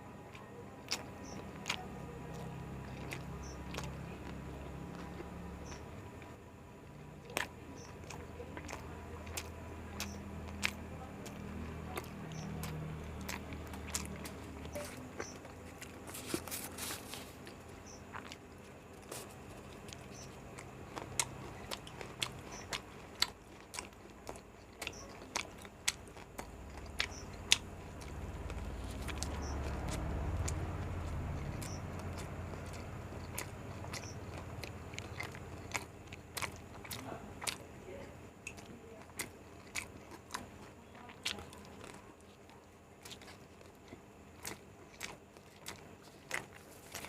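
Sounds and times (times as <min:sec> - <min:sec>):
biting and chewing food: 0:00.0 - 0:47.0
mouth clicks and crunches: 0:00.0 - 0:47.0.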